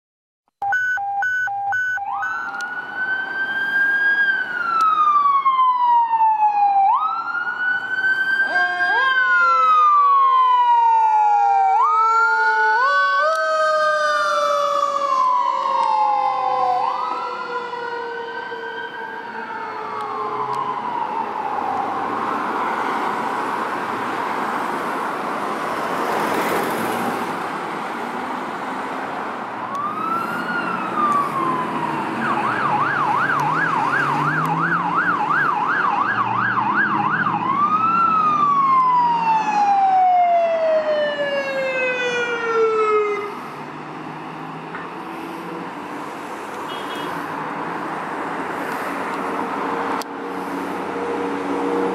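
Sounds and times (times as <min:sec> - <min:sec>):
emergency vehicle siren: 0:00.6 - 0:51.9
road traffic noise: 0:00.6 - 0:51.9.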